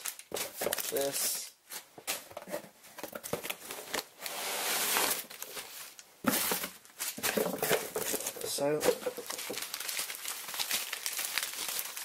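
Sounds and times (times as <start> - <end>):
newspaper rustling and crinkling: 0.0 - 12.0.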